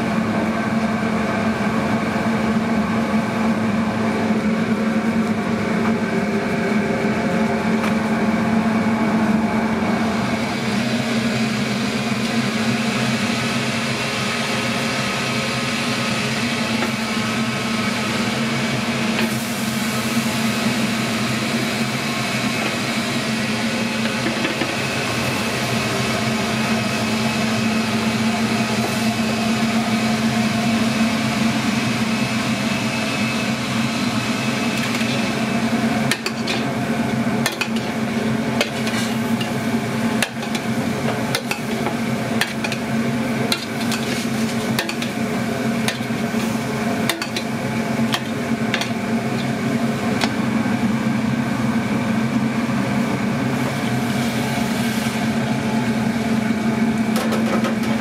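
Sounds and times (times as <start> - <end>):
kitchen machine hum: 0.0 - 58.0.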